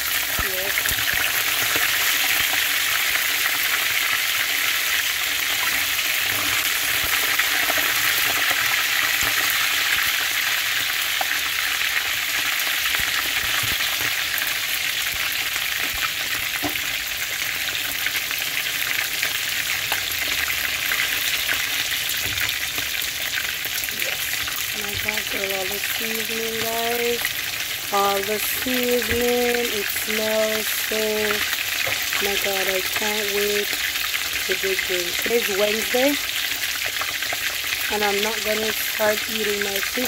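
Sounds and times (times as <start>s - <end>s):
fish sizzling in hot oil: 0.0s - 40.0s.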